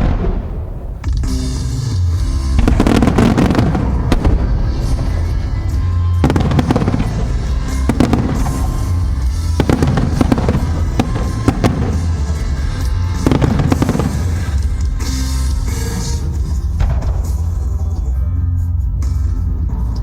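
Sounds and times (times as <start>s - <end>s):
fireworks bangs and crackles: 0.0s - 17.9s
music with heavy bass: 1.0s - 20.0s.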